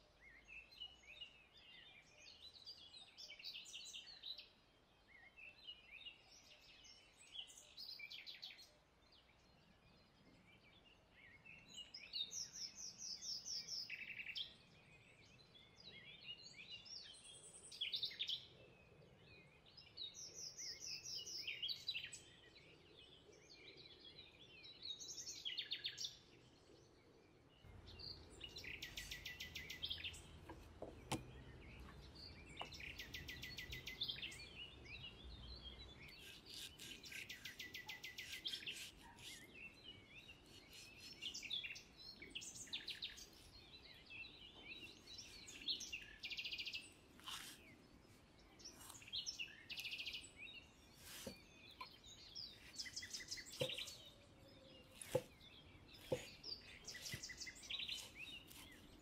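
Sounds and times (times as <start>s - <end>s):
small birds chirping and trilling: 0.1s - 59.0s.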